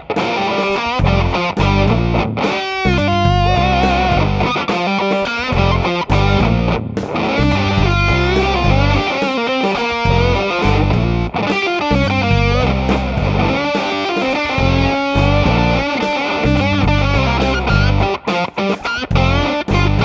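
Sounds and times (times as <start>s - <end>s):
fuzzed electric guitar riff: 0.0s - 20.0s.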